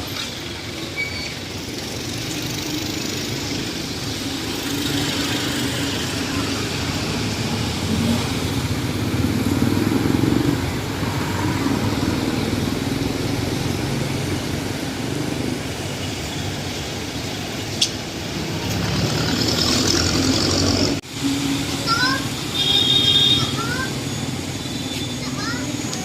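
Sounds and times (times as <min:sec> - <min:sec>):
car engines passing: 0:00.0 - 0:22.5.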